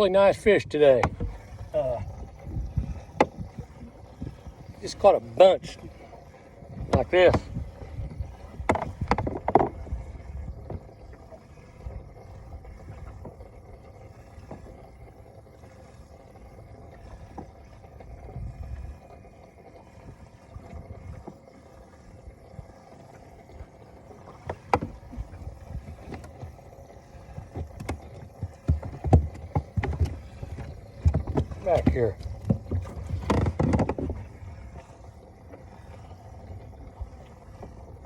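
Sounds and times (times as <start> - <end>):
low steady rumble: 0.0 - 38.0.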